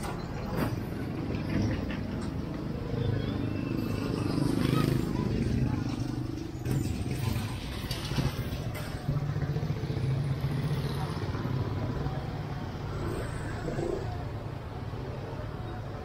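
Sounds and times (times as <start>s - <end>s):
people's voices: 0.0s - 16.0s.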